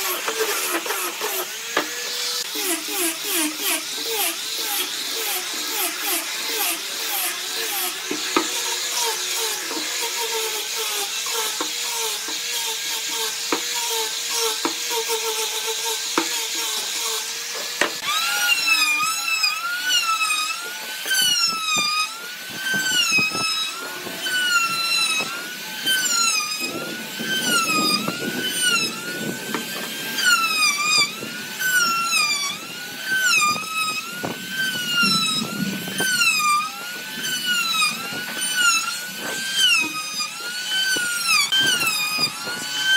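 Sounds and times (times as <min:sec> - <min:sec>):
angle grinder sanding wood: 0:00.0 - 0:42.9
router whining cutting wood: 0:00.0 - 0:42.9.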